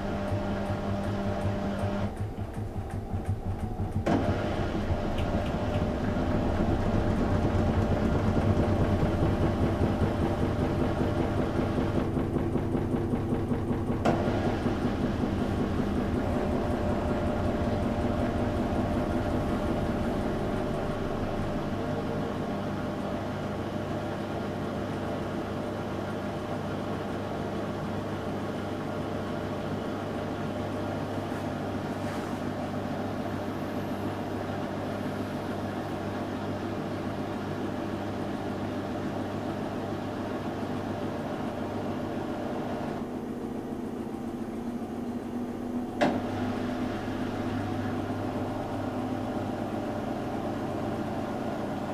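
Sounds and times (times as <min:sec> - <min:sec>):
washing machine drum rumbling: 0:00.0 - 0:51.9.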